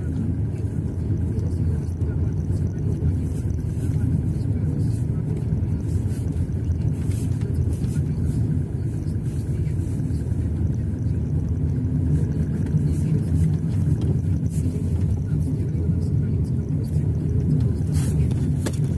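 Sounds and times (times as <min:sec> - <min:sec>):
car engine and tyres rumbling: 0:00.0 - 0:18.9.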